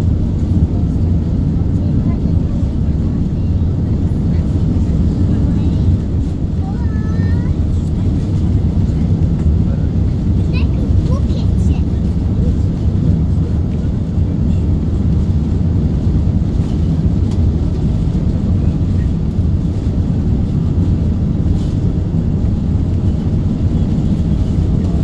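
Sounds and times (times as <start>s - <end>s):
jet engines roaring in cabin: 0.0s - 25.0s.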